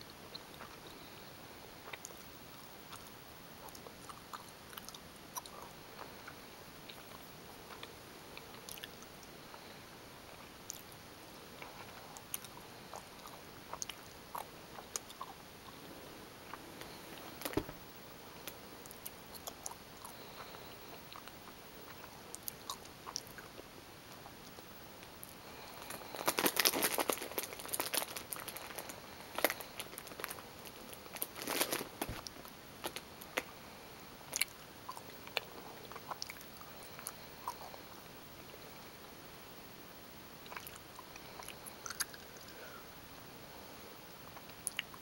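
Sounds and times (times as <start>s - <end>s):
faint steady hiss: 0.0s - 45.0s.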